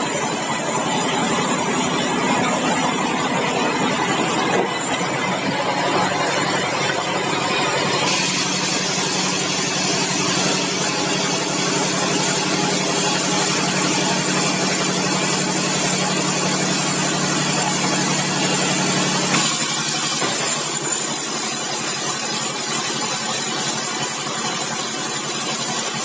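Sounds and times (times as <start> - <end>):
sawmill machinery humming: 0.0 - 26.0.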